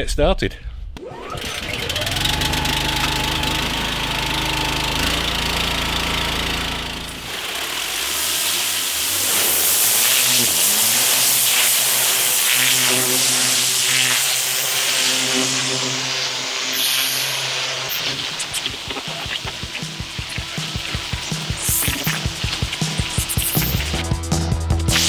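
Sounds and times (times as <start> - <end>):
pressure washer engine drone: 1.0 - 25.0
water jet hissing on paving: 2.0 - 24.0.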